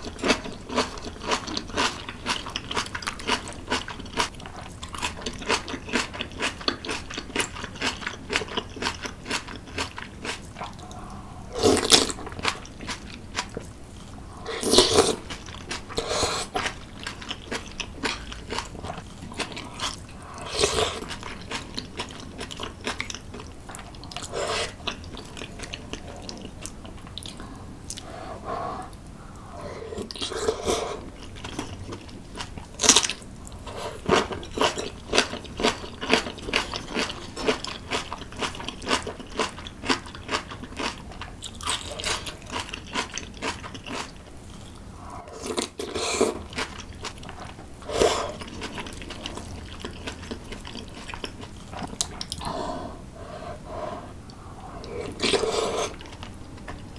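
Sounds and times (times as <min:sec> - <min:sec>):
chewing crunchy food: 0:00.0 - 0:56.9.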